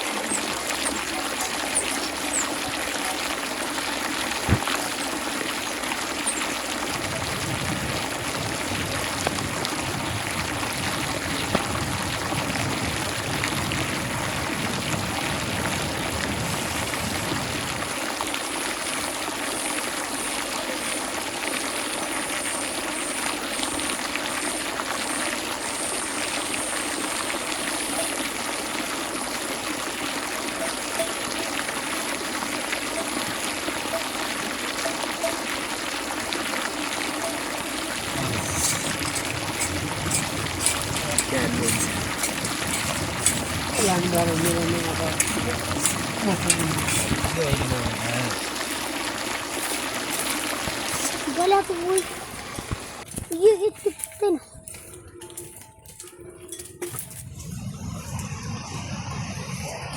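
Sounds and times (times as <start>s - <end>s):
water running and trickling: 0.0s - 57.5s.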